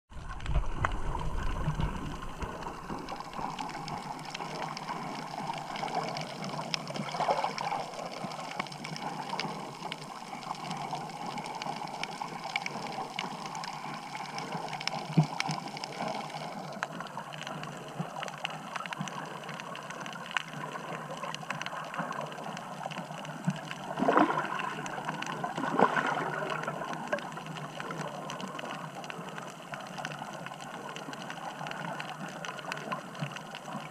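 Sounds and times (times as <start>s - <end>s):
faint underwater clicks and crackles: 0.1s - 33.9s
water surges: 0.1s - 33.9s.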